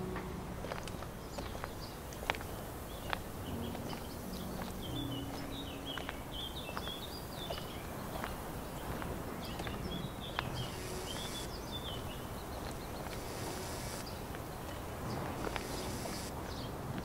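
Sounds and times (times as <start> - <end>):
outdoor background hiss: 0.0 - 17.0
small birds chirping: 0.0 - 17.0.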